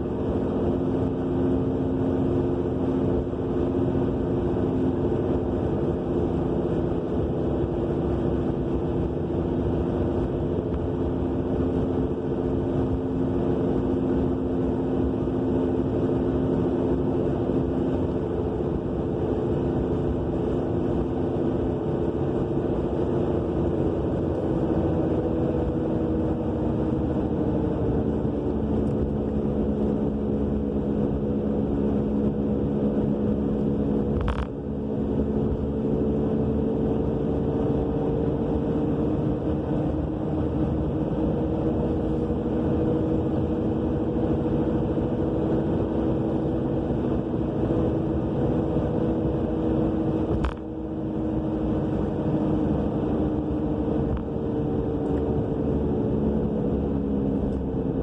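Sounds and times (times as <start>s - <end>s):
droning roar in car cabin: 0.0s - 58.0s.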